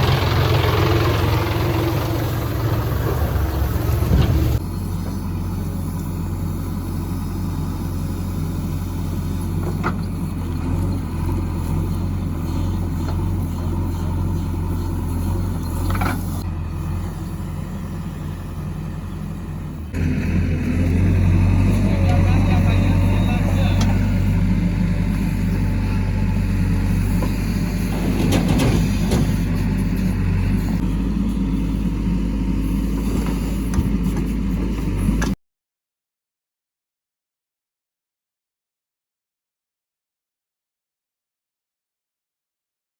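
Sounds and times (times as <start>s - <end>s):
heavy diesel engine: 0.0s - 35.4s.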